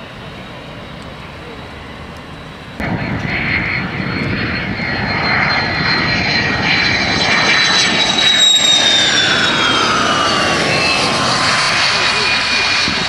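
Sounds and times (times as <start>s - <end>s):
jet engine roar and whine: 0.0s - 13.0s.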